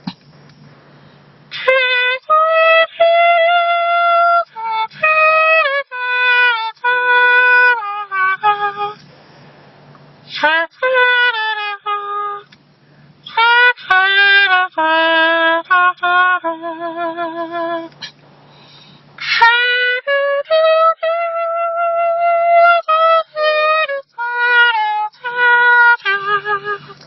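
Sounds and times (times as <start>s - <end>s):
hand whistling melody: 1.5s - 9.2s, 10.0s - 27.0s.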